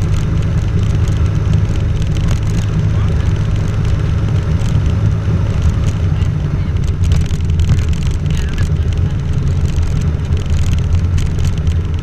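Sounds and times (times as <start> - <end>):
plane engine low drone: 0.0 - 12.0.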